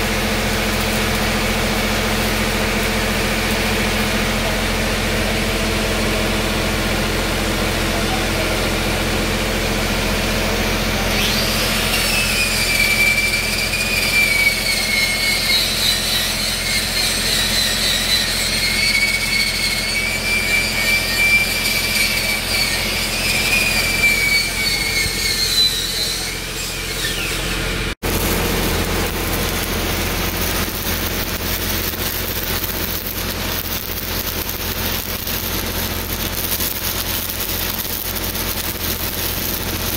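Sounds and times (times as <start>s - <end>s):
engine running: 0.0s - 39.9s
high whine: 0.0s - 39.9s
welding arc crackling and hissing: 0.0s - 39.9s.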